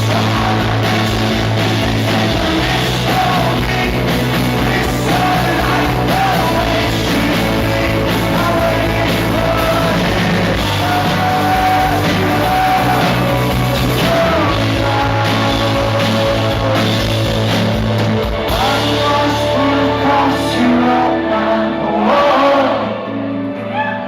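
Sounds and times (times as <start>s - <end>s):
live rock band: 0.0s - 24.0s
person singing: 0.0s - 24.0s.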